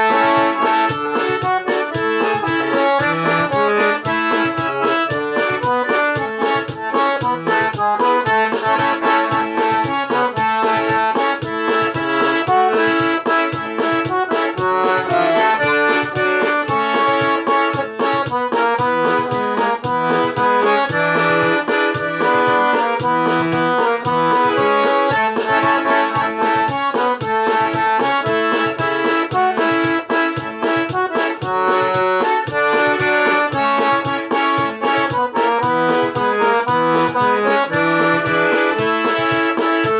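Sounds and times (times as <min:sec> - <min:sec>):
accordion playing quick melody: 0:00.0 - 0:39.9.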